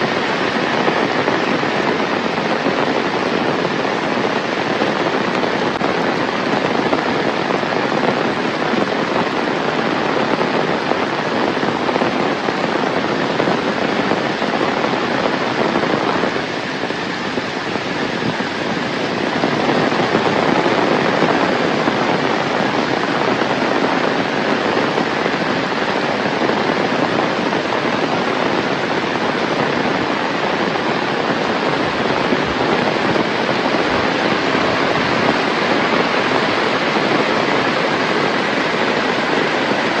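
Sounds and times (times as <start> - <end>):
heavy rain pouring: 0.0 - 40.0.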